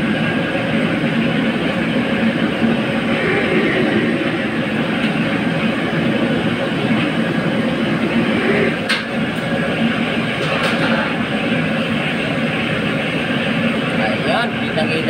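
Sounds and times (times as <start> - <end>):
loud machinery noise: 0.0 - 15.0.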